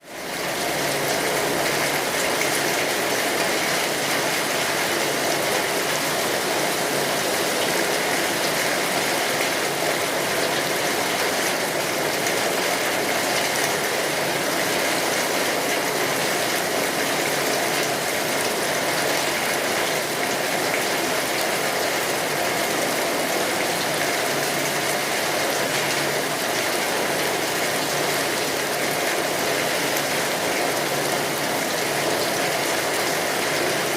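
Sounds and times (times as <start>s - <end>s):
heavy rain pattering: 0.1s - 33.9s.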